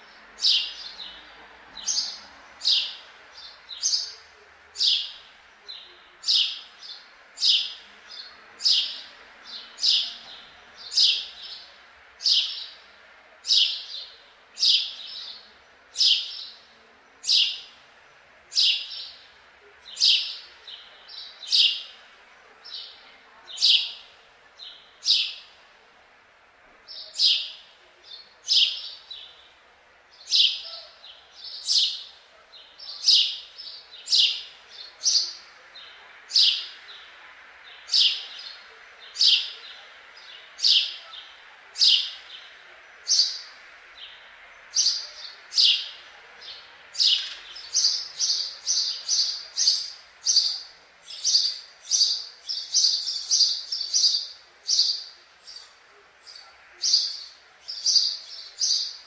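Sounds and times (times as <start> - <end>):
sparrow chirping: 0.0 - 1.2, 1.8 - 17.8, 18.5 - 25.6, 26.9 - 29.5, 30.1 - 59.0.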